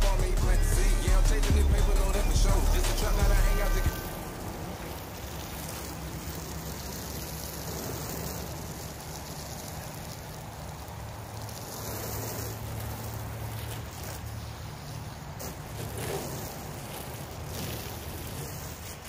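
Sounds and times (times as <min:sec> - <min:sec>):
hose spraying water: 0:00.0 - 0:19.0.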